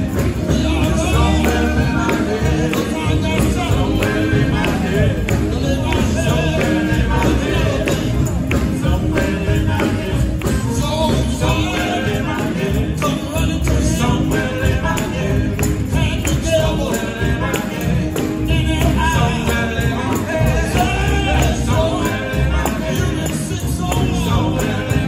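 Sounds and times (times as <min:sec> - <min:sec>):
band beat: 0:00.0 - 0:25.0
electric guitar: 0:00.0 - 0:25.0
men singing gospel: 0:00.0 - 0:25.0.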